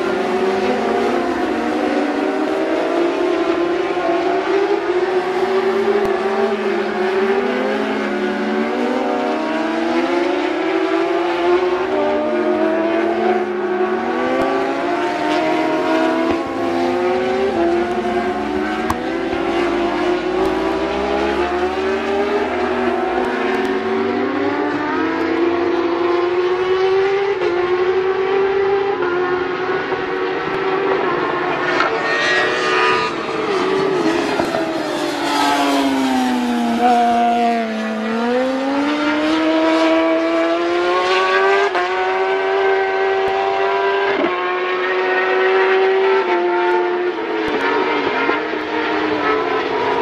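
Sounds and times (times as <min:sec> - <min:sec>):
racing motorcycle engines: 0:00.0 - 0:50.0.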